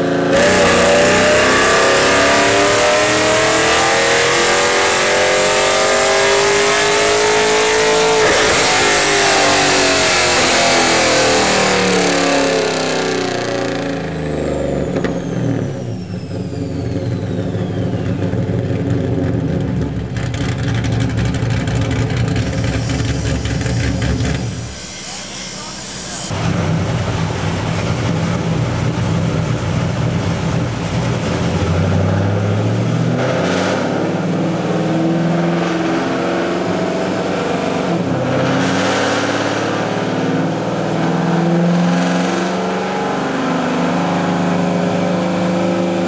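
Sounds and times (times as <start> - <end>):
car engine revving on dyno: 0.0 - 46.0
high whine of dyno rollers: 0.0 - 46.0.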